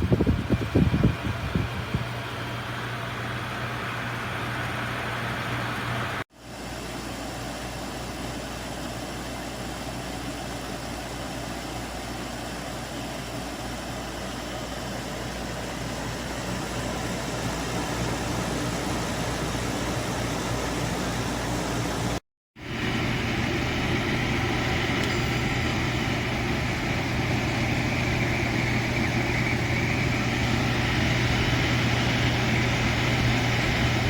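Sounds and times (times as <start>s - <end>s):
air conditioner rushing air: 0.0s - 34.0s
constant low hum: 0.0s - 34.0s.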